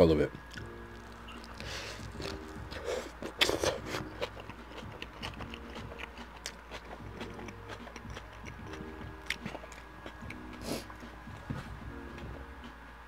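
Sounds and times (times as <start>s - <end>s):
wet chewing of food: 0.4s - 11.9s.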